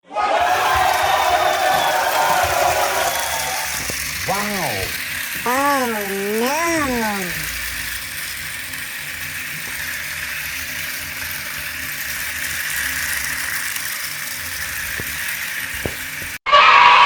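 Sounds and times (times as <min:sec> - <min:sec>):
toy rail car whirring: 0:00.4 - 0:16.4.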